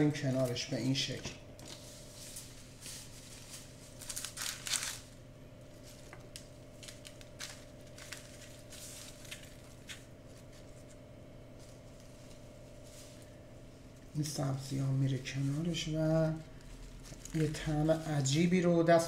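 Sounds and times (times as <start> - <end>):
herbs and parchment paper rustling: 0.0 - 19.0
steady low hum: 0.0 - 19.0.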